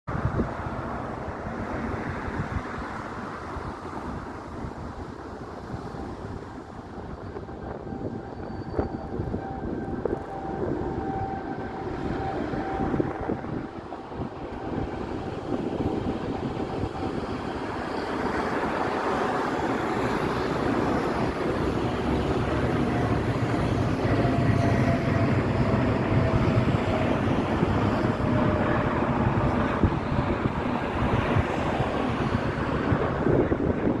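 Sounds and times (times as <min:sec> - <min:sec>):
aeroplane engine rumble: 0:00.1 - 0:34.0
faint engine whine: 0:00.1 - 0:34.0.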